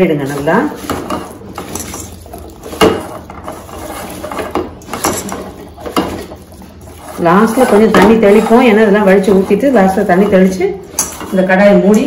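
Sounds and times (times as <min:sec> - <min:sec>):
food knocking and scraping in steel pan: 0:00.0 - 0:12.0.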